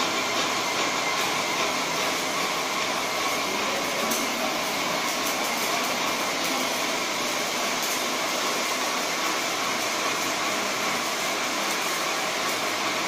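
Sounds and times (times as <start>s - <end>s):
sprayer machine running: 0.0s - 13.0s.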